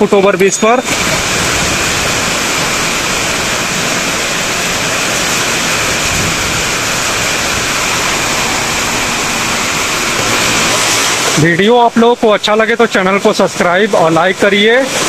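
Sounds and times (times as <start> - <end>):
heavy rain on metal roof: 0.0 - 15.0.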